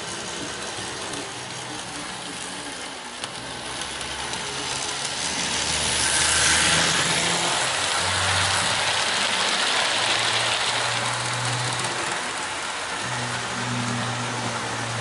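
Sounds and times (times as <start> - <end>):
model train motor whirring: 0.0 - 15.0
wheels rumbling and clattering: 0.0 - 15.0.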